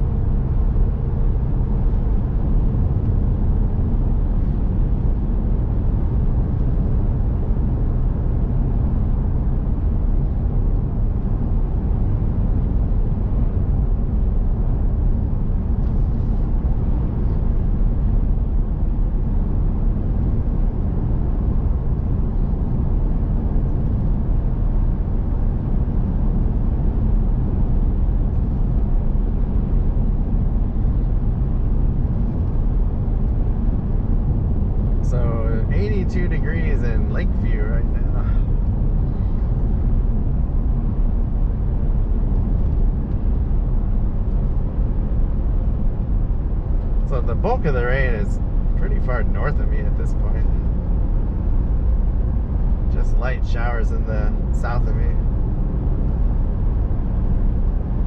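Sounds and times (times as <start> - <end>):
vehicle cabin road rumble: 0.0 - 58.0.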